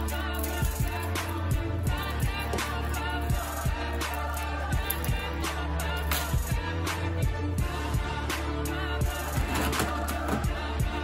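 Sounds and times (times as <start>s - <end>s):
hip-hop beat with heavy bass: 0.0s - 11.0s.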